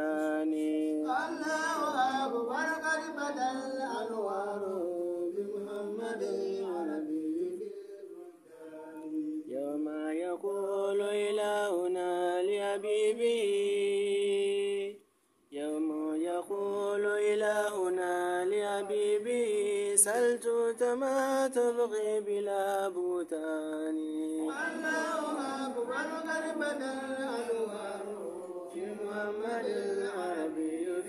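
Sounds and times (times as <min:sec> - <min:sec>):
person chanting: 0:00.0 - 0:31.0.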